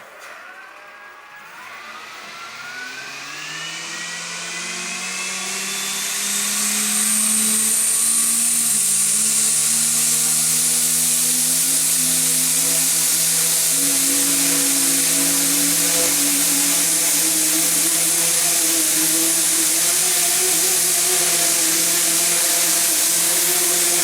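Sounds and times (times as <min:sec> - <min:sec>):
model helicopter rotor whine: 0:00.0 - 0:24.0.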